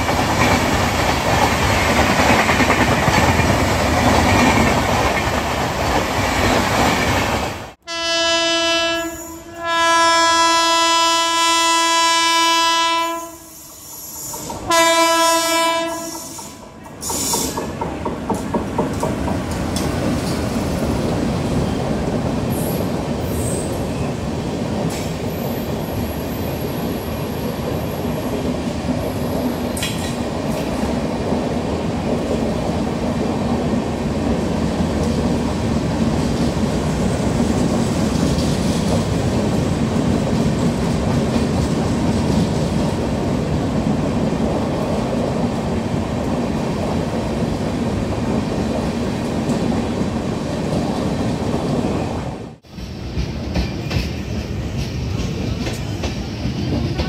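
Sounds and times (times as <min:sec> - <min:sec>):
train wheels rumbling on rail: 0:00.0 - 0:07.8, 0:13.0 - 0:57.0.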